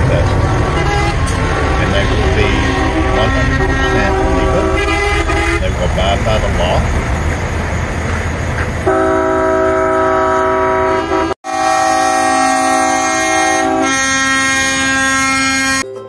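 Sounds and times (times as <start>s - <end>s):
truck air horns chord: 0.0s - 6.8s, 8.8s - 15.8s.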